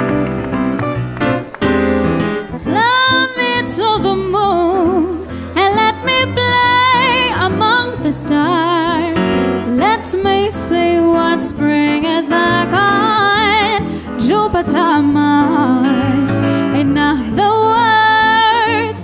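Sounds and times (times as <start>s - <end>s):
electric guitar: 0.0s - 19.0s
keyboard playing piano sounds: 0.0s - 19.0s
woman singing with vibrato: 2.6s - 19.0s.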